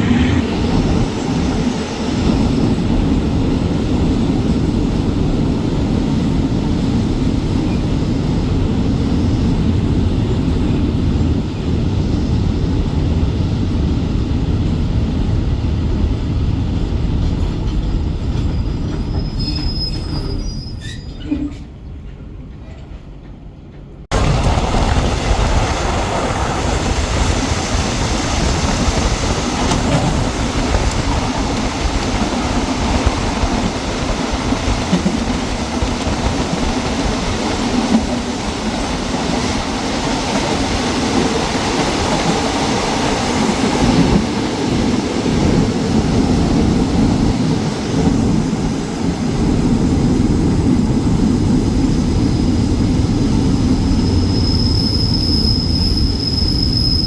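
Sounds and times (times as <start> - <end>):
train rumbling and rattling: 0.0 - 57.0.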